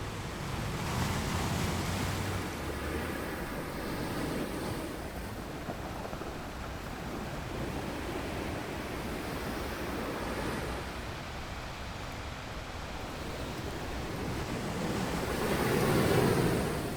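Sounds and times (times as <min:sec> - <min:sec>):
ocean waves washing onto beach: 0:00.0 - 0:16.9.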